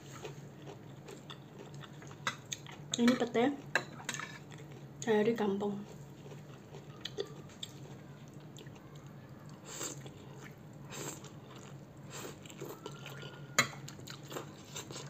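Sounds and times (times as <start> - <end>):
person chewing: 0.0 - 3.0, 4.0 - 4.9, 5.9 - 15.0.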